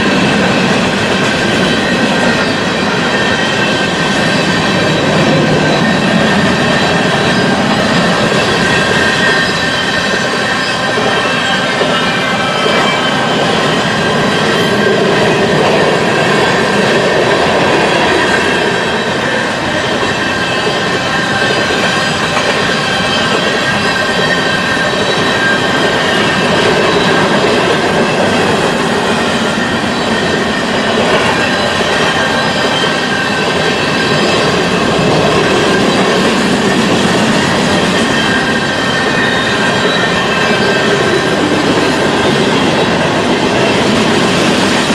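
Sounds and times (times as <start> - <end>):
steady high-pitched tones: 0.0 - 44.9
train wheels rumbling on rails: 0.0 - 44.9.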